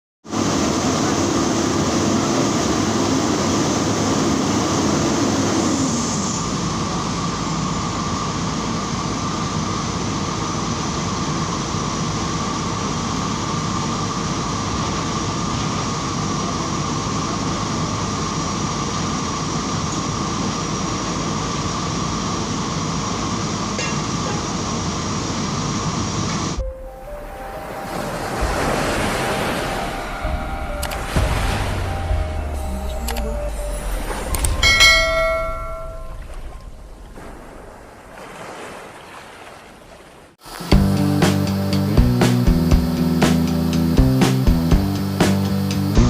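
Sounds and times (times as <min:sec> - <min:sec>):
machinery rumble and hiss: 0:00.3 - 0:38.0, 0:40.4 - 0:46.0
machinery hum: 0:00.3 - 0:38.6, 0:40.4 - 0:46.0.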